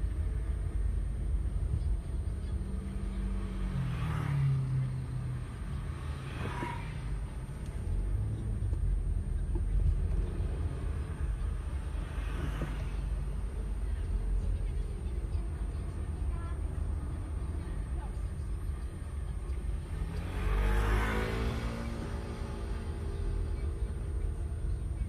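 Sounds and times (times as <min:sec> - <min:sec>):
car engine rumble: 0:00.0 - 0:25.0
road noise inside car: 0:00.0 - 0:25.0.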